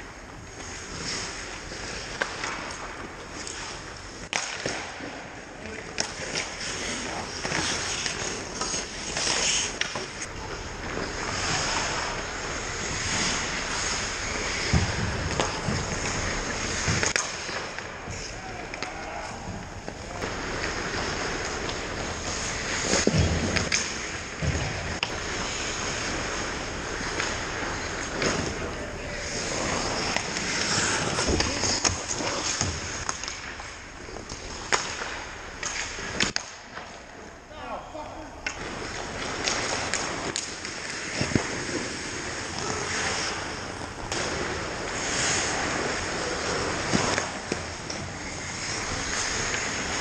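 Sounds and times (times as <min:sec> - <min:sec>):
skates scraping ice: 0:00.1 - 0:50.0
stick and puck clacks: 0:00.2 - 0:37.2, 0:38.4 - 0:50.0
steady hiss: 0:06.1 - 0:50.0.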